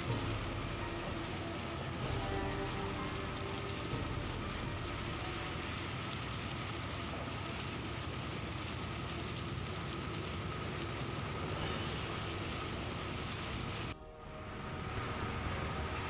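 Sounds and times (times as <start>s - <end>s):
motor boat engine drone: 0.0s - 16.0s
rushing hiss: 0.0s - 16.0s.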